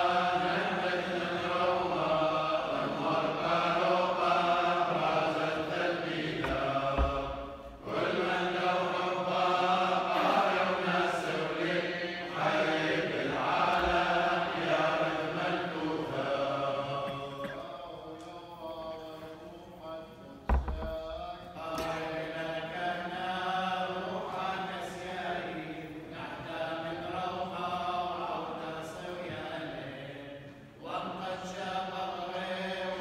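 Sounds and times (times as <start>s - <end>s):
men chanting prayers: 0.0s - 33.0s.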